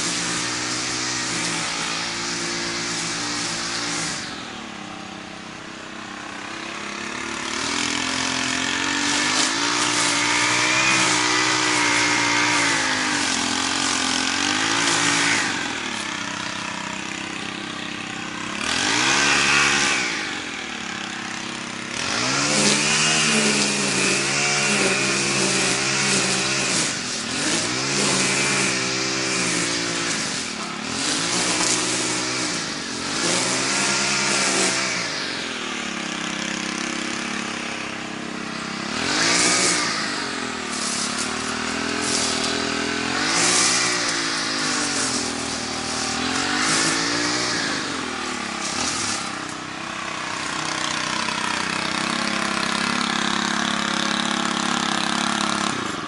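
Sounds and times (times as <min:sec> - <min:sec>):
lawn mower engine mowing grass: 0:00.0 - 0:56.0.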